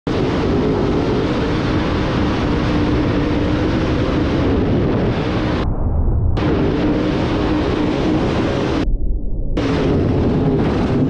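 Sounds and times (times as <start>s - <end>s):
wind noise: 0.1s - 11.0s.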